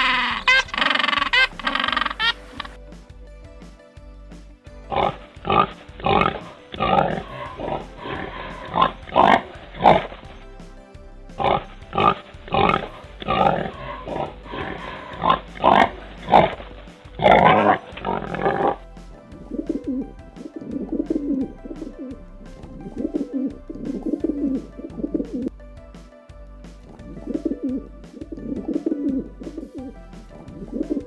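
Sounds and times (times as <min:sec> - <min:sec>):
faint background music: 0:00.0 - 0:31.0.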